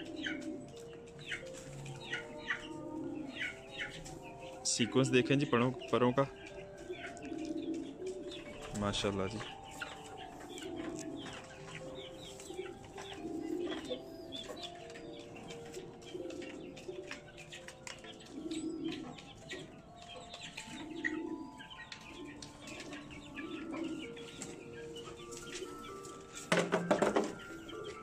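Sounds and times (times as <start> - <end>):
high bird chirps: 0.0 - 28.0
pigeons cooing: 0.0 - 28.0.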